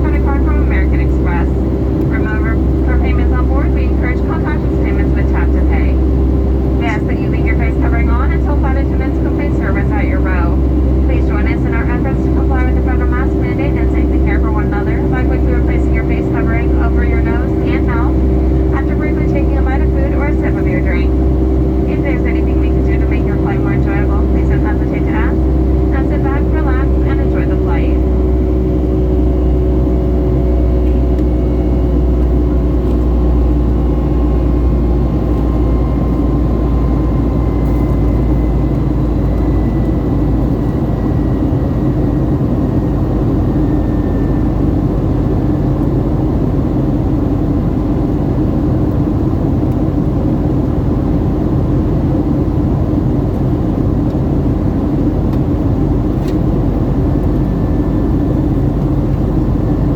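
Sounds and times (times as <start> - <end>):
faint gliding engine tones: 0.0 - 59.9
jet engine cabin roar: 0.0 - 59.9.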